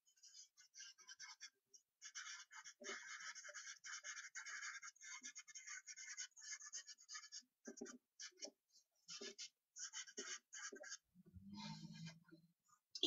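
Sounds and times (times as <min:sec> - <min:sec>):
charcoal scratching on paper: 0:00.1 - 0:11.1.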